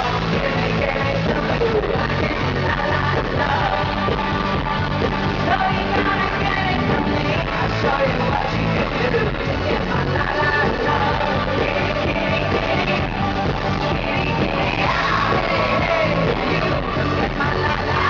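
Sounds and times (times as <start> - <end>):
live pop band playing: 0.0 - 18.0
women singing: 0.0 - 18.0.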